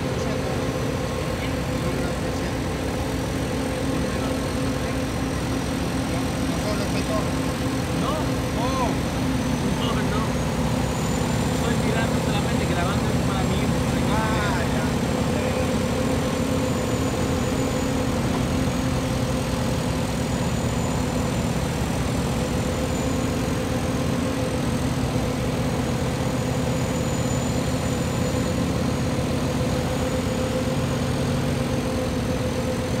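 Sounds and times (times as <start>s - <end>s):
heavy diesel engine droning: 0.0s - 33.0s.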